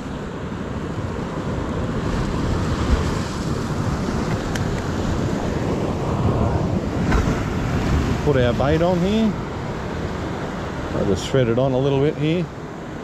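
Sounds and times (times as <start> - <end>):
ocean surf rushing on rocks: 0.0 - 13.0.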